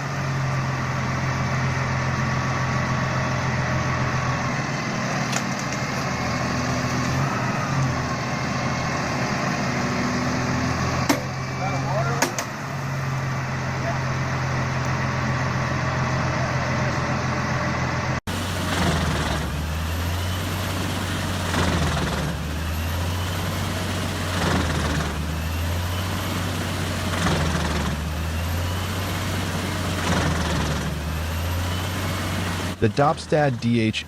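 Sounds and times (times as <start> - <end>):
wood chipper grinding: 0.0 - 33.9
diesel engine running: 0.0 - 34.0.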